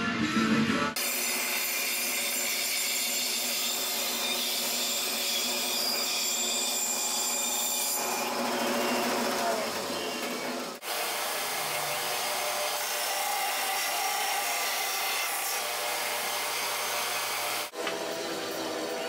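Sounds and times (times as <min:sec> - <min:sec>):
band saw cutting wood: 0:01.0 - 0:19.0.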